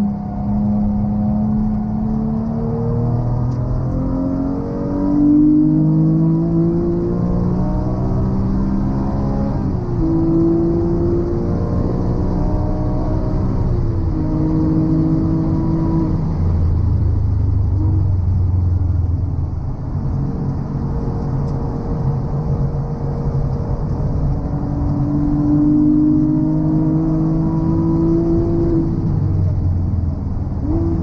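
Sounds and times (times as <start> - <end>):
car engine revving: 0.0 - 31.0
road and wind noise: 0.0 - 31.0.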